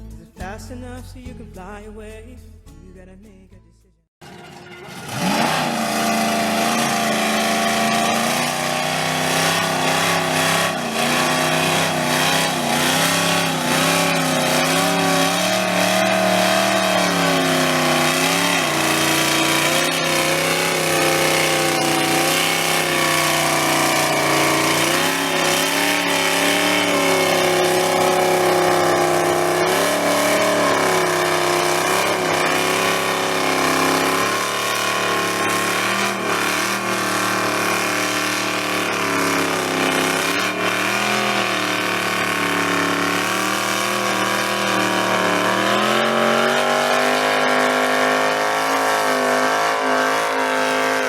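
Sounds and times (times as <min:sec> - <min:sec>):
car engine revving high: 0:04.3 - 0:51.0.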